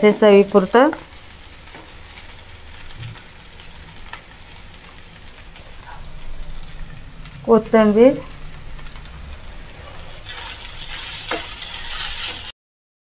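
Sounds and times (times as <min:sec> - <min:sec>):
food sizzling faintly: 0:00.0 - 0:12.5
wooden spatula scraping: 0:01.7 - 0:12.5.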